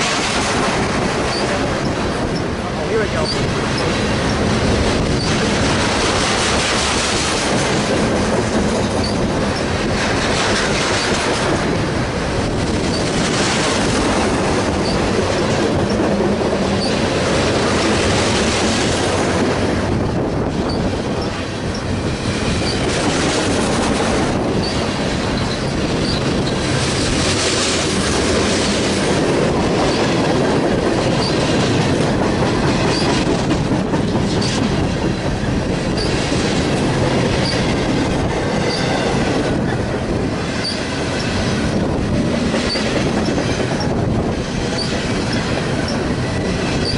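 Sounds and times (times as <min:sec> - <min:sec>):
train wheels clattering over rail joints: 0:00.0 - 0:46.9.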